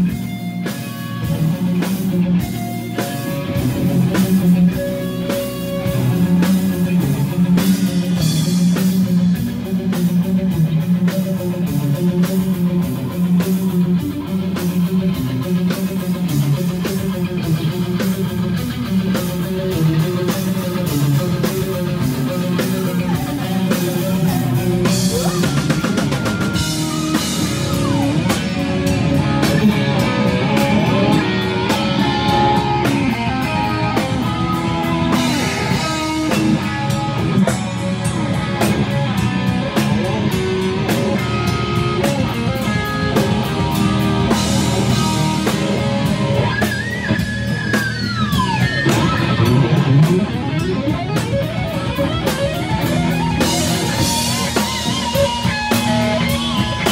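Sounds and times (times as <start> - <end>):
bass guitar: 0.0 - 56.9
distorted electric guitar: 0.0 - 56.9
drum kit: 0.0 - 56.9.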